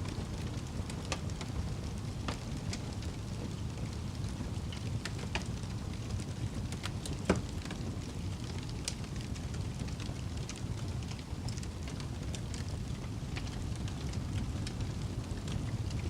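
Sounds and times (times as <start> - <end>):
campfire wood crackling and popping: 0.0 - 16.0
low rumble of flames: 0.0 - 16.0.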